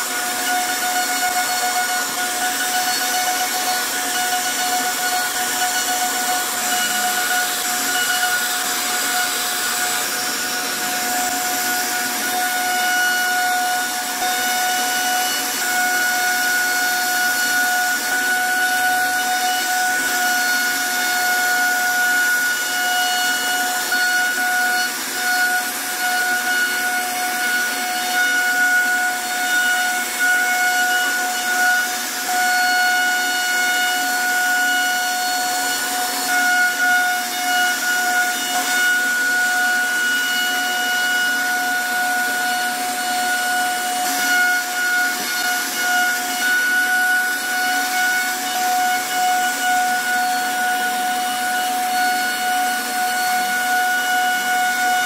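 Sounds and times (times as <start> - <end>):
router spindle whining: 0.0 - 55.0.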